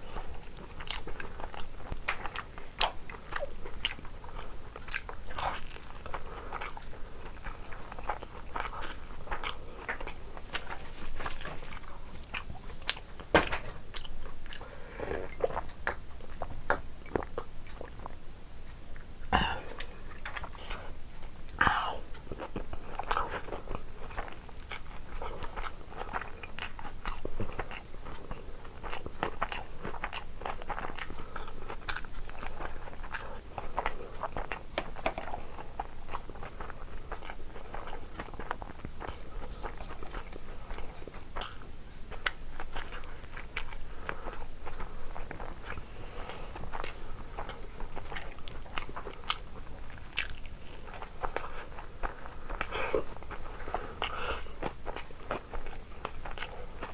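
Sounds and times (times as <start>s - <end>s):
person chewing crunchy food: 0.0s - 56.9s.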